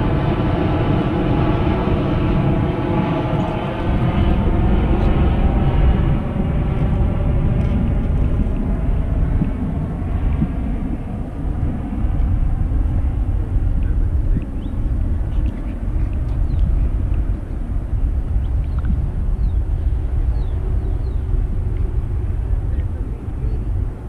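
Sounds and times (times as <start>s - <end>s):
engine drone: 0.0s - 24.0s
loud low rumble: 0.0s - 24.0s.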